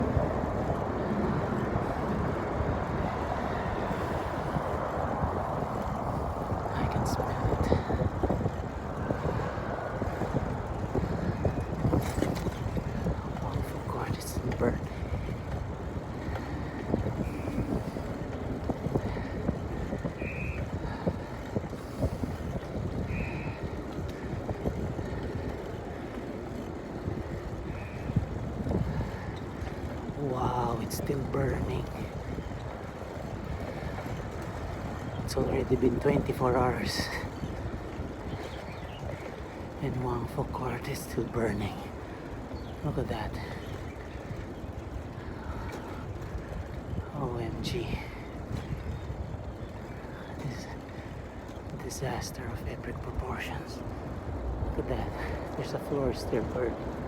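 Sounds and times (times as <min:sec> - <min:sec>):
bicycle road noise: 0:00.0 - 0:57.0
wind rushing over microphone: 0:00.0 - 0:57.0.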